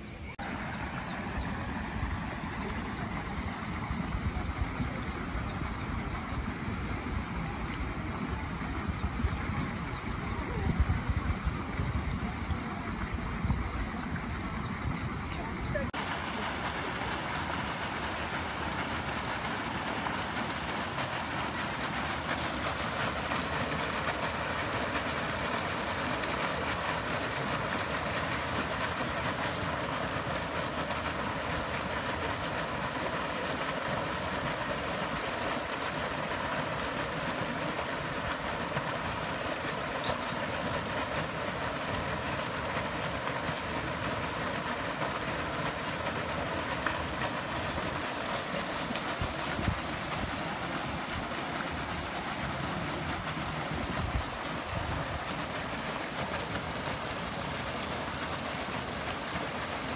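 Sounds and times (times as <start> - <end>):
bubbling fountain jet: 0.0 - 59.9
flowing river water: 0.0 - 59.9.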